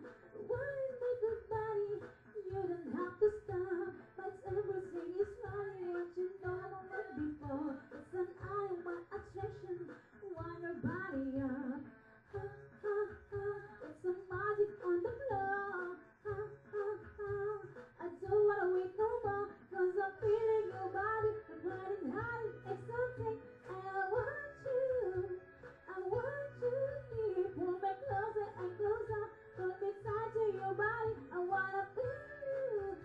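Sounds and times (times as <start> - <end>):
woman singing and humming: 0.4 - 33.0.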